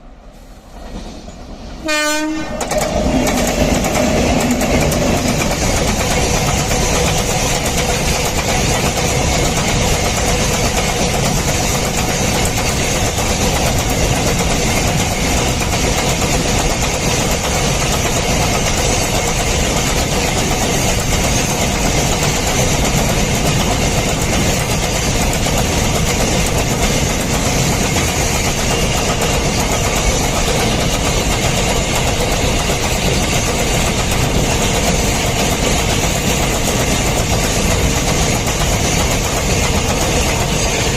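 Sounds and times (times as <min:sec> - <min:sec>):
train wheels rolling on rails: 0:00.0 - 0:40.9.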